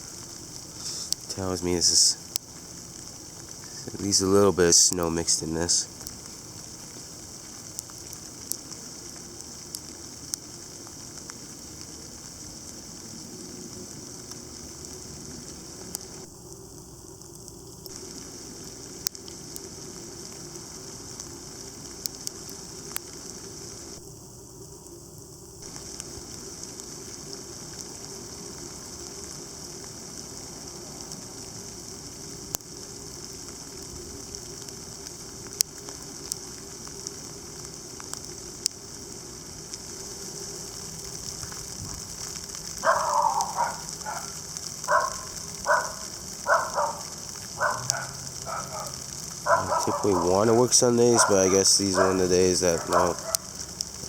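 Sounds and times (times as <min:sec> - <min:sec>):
ice pellets ticking: 0:00.0 - 0:24.2, 0:25.6 - 0:54.0
sleet falling hiss: 0:00.0 - 0:54.0.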